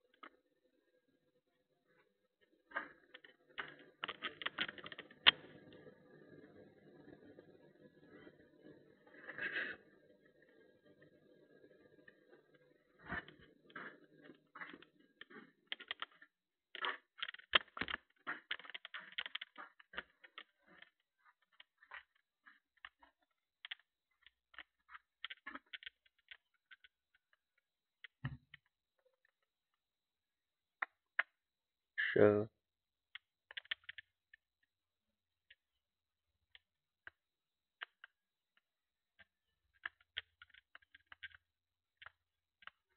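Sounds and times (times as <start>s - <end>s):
faint clicks and ticks: 1.9s - 29.5s, 33.1s - 34.7s, 36.4s - 42.9s.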